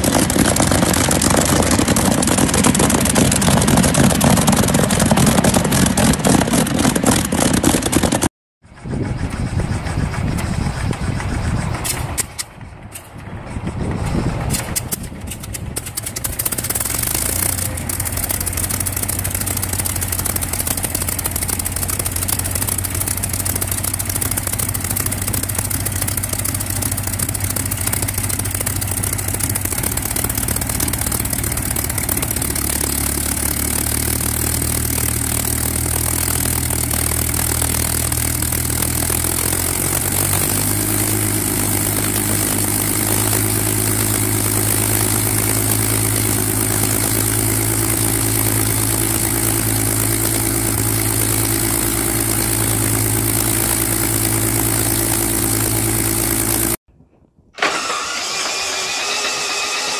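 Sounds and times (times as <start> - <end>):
aero engine running: 0.0 - 56.8.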